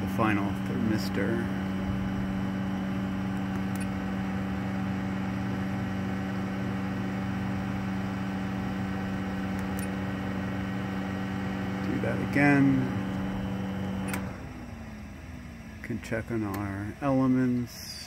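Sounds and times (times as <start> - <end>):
heat pump humming: 0.0 - 18.0.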